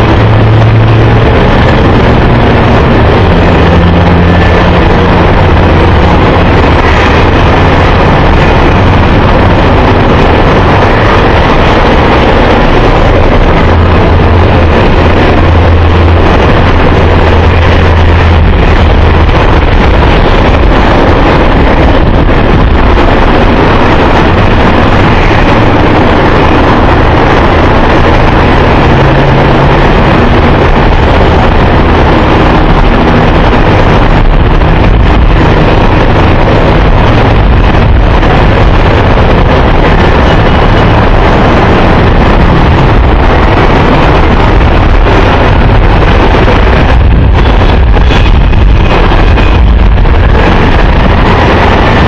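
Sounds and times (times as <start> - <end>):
jet engines running: 0.0 - 52.0.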